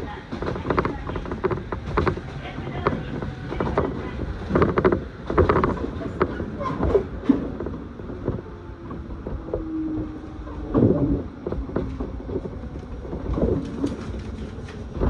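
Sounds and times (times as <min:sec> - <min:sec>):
knocks and clunks from train car: 0:00.0 - 0:15.0
train cabin rumble: 0:00.0 - 0:15.0.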